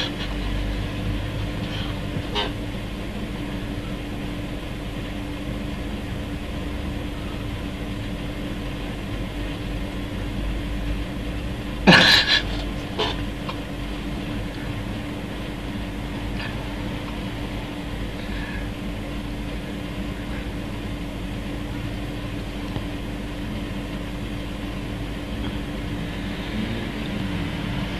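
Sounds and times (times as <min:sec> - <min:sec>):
machine hum: 0:00.0 - 0:27.9.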